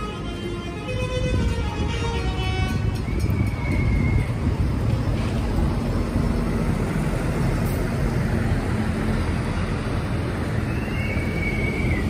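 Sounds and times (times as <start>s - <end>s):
heavy diesel engines rumbling: 0.0s - 12.0s.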